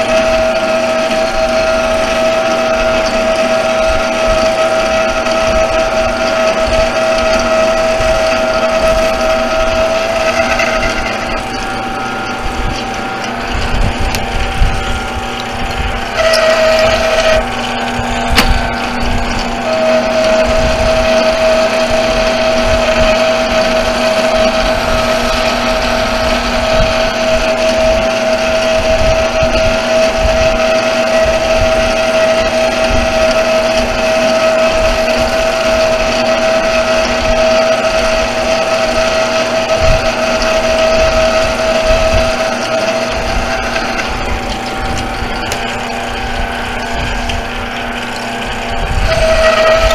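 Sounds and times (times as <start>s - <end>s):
lathe motor and gears whining: 0.0s - 49.9s
metal cutting noise: 0.0s - 49.9s.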